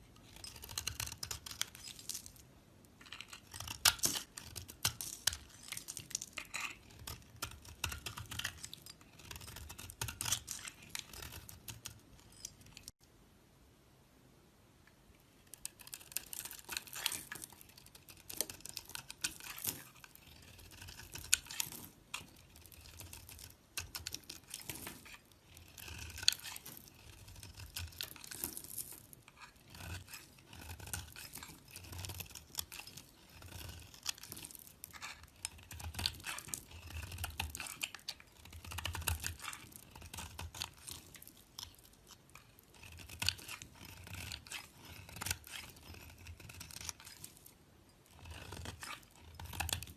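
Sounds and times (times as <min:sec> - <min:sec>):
blade carving soap: 0:00.0 - 0:02.1, 0:03.0 - 0:13.0, 0:15.5 - 0:49.9.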